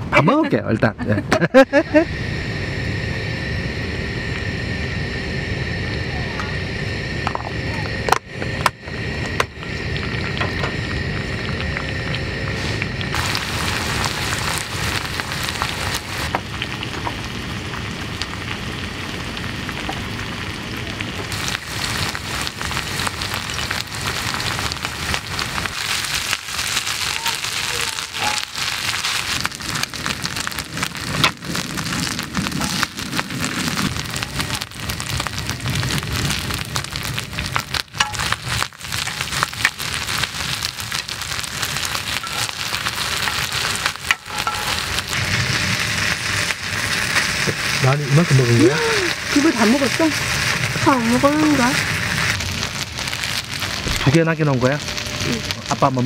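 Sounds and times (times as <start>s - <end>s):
rice sizzling on griddle: 1.4s - 56.0s.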